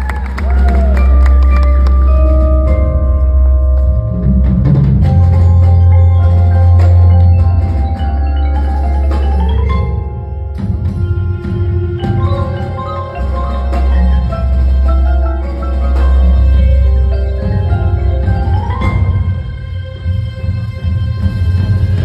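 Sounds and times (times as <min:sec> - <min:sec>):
deep sustained bass tones: 0:00.0 - 0:20.3
marimbas playing: 0:00.0 - 0:22.0.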